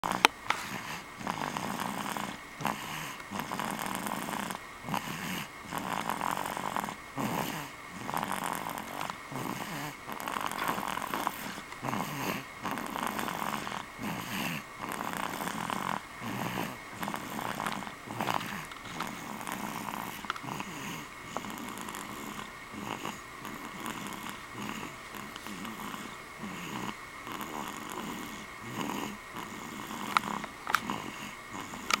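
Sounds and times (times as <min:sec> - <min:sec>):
baby snoring: 0:00.0 - 0:32.0.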